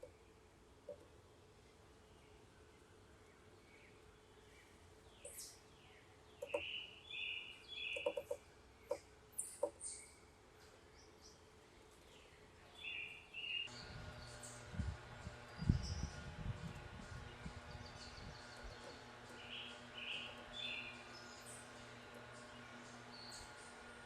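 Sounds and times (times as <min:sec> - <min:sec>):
birds chirping: 0:02.0 - 0:24.0.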